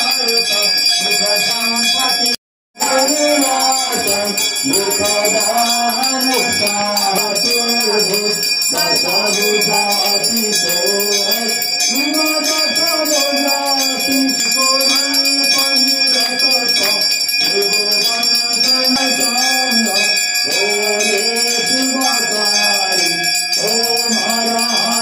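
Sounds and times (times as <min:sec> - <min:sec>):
hand bell ringing: 0:00.0 - 0:25.0
voices chanting: 0:00.0 - 0:25.0.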